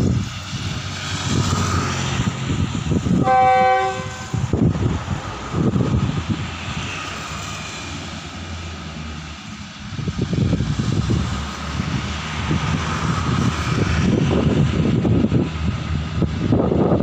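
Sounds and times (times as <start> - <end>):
diesel railcar engine running: 0.0 - 17.0
wind buffeting microphone: 0.0 - 17.0.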